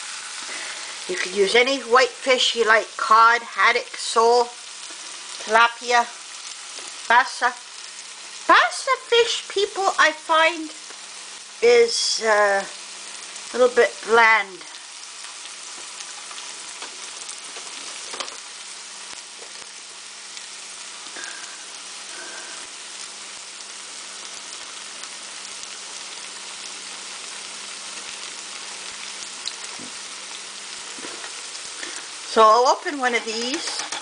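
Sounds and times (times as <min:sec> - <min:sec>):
food deep-frying in oil: 0:00.0 - 0:34.0.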